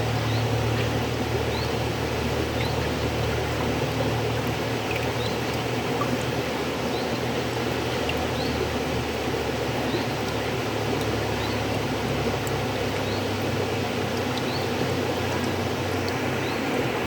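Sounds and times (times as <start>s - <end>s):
low steady hum: 0.0s - 17.0s
river water flowing: 0.0s - 17.0s.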